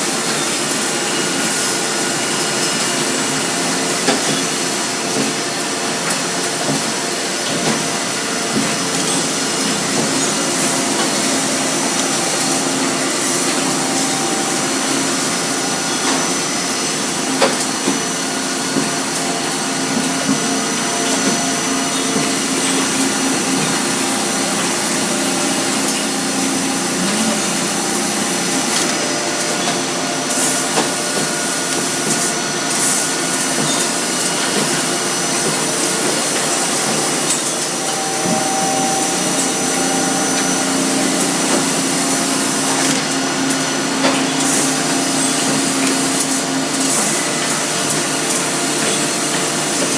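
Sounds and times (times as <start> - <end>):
industrial machinery hiss and whir: 0.0 - 49.9
steady machine tones: 0.0 - 49.9.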